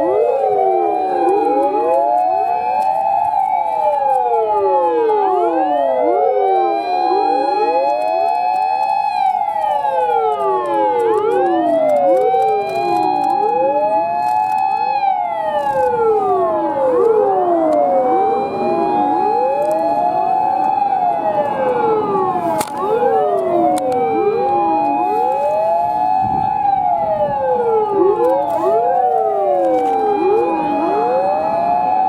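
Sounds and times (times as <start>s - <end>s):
emergency vehicle sirens: 0.0s - 32.0s.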